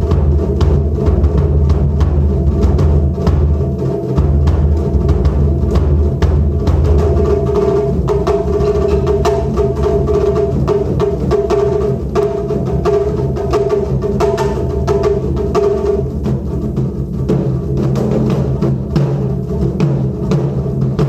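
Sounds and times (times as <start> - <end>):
taiko drum ensemble: 0.0 - 21.0.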